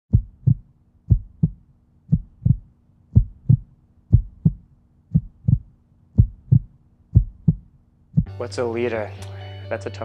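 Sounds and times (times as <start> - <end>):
heartbeat double thumps: 0.1 - 8.3.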